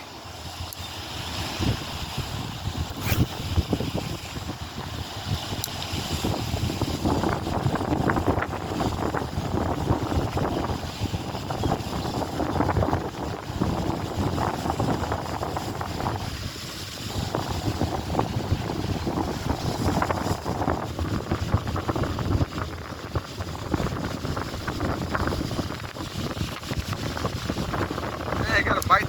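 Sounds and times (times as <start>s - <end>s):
gusty wind buffeting microphone: 0.0s - 29.0s.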